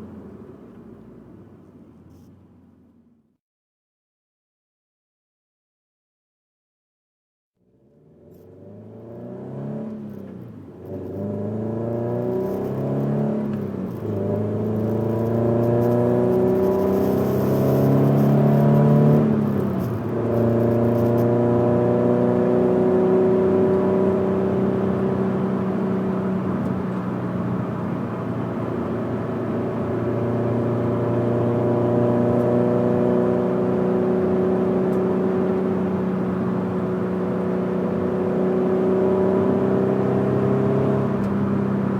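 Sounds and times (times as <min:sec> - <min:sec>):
car engine accelerating: 0:07.7 - 0:41.9.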